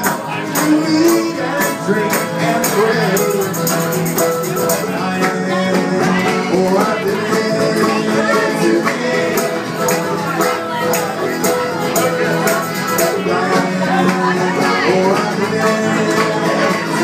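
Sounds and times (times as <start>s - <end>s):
accordion: 0.0s - 17.0s
mandolin: 0.0s - 17.0s
sharp high rhythmic strokes: 0.0s - 17.0s
upright bass: 0.0s - 17.0s.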